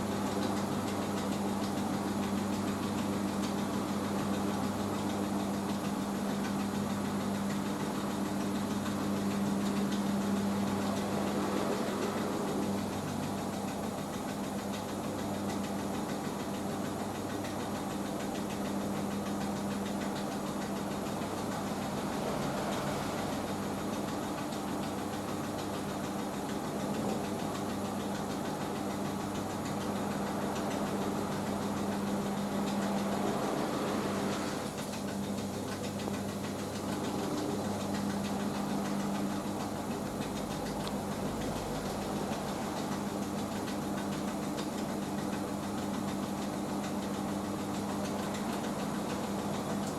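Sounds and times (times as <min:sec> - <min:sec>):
washing machine spinning: 0:00.0 - 0:49.9.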